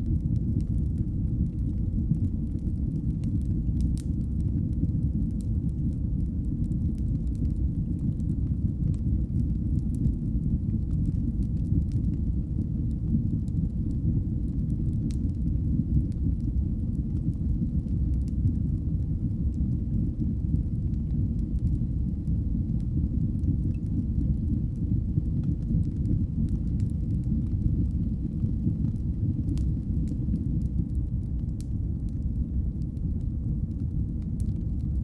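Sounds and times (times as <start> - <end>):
fire crackles and pops: 0.0 - 35.0
wood fire burning: 0.0 - 35.0.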